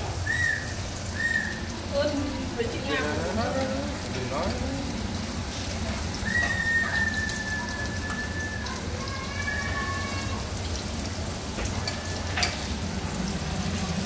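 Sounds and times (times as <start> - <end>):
oil sizzling and crackling: 0.0 - 14.0.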